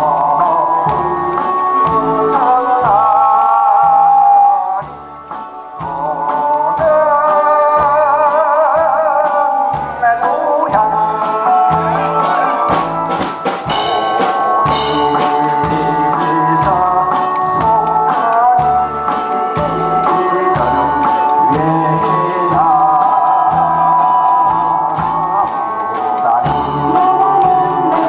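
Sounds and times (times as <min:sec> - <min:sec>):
man singing into microphone: 0:00.0 - 0:05.0, 0:05.7 - 0:13.0, 0:13.7 - 0:28.0
backing music with bass and drums: 0:00.0 - 0:28.0.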